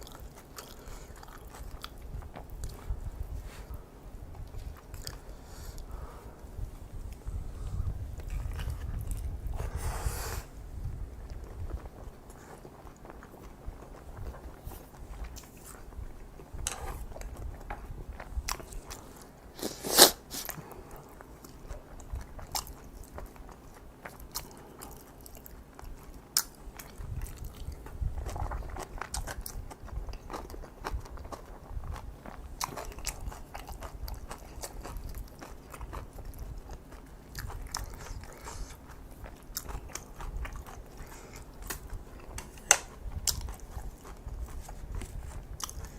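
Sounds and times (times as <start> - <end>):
chewing crunchy food: 0.0 - 9.9, 10.8 - 45.9.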